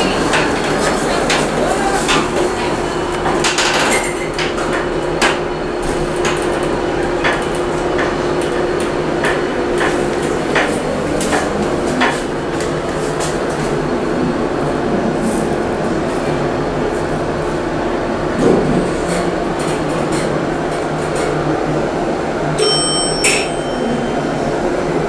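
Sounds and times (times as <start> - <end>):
elevator mechanical hum: 0.0 - 25.0.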